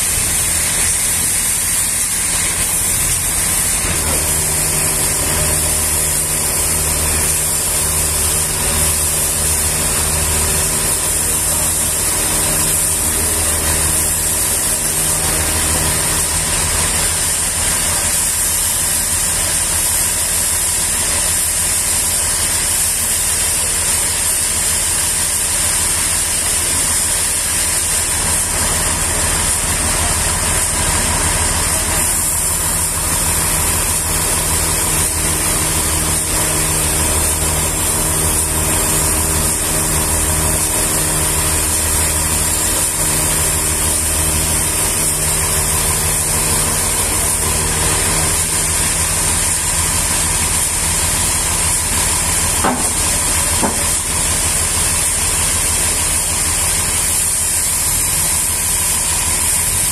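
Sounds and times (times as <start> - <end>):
engine low drone: 0.0 - 59.5
high hiss: 0.0 - 59.9.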